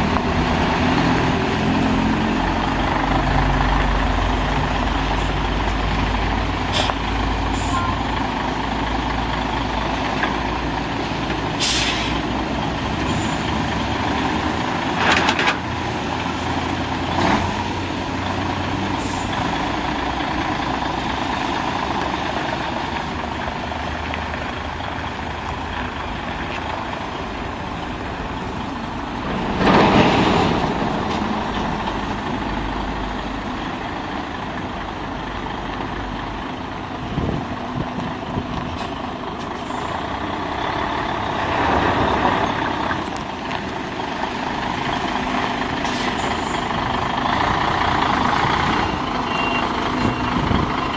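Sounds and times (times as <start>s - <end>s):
diesel truck engine idling: 0.0s - 15.0s, 15.6s - 29.6s, 30.5s - 50.9s.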